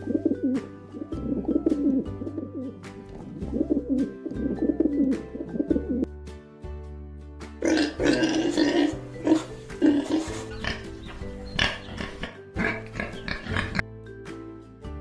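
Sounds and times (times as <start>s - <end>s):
pigeon cooing: 0.0s - 6.1s, 7.7s - 13.8s
background music: 0.0s - 15.0s.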